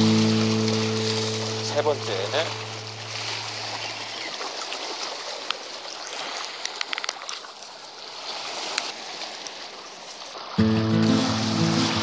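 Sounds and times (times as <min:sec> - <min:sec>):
waves lapping over rocks: 0:00.0 - 0:12.0.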